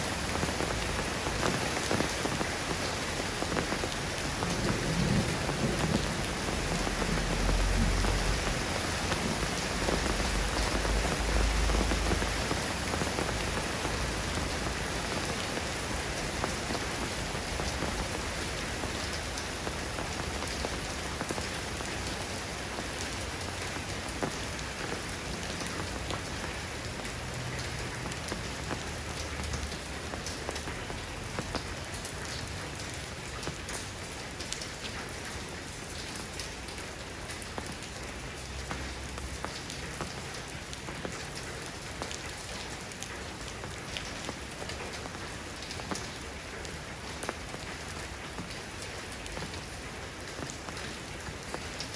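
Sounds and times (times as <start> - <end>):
soft rain falling: 0.0 - 51.9.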